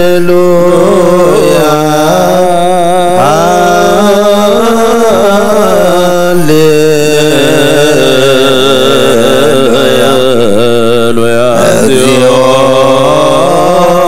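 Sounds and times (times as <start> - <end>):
liturgical chanting: 0.0 - 14.0.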